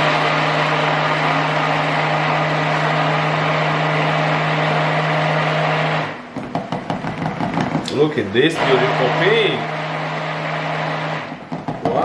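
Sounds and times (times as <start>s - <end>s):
electric stick blender running: 0.0s - 11.9s.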